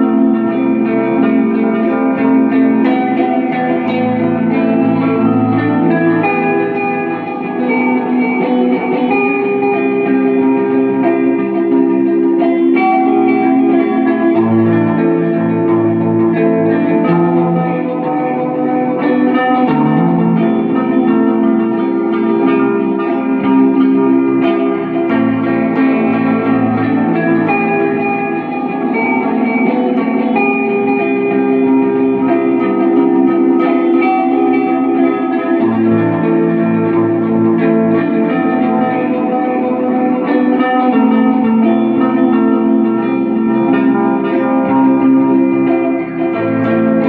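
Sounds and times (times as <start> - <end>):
electric guitar through amplifier: 0.0 - 47.0.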